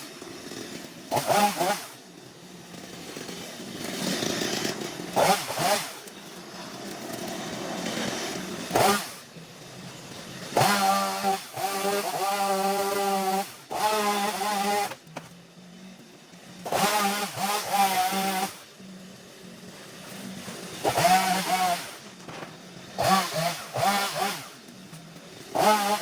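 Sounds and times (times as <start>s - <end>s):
small petrol engine revving: 0.0s - 26.0s.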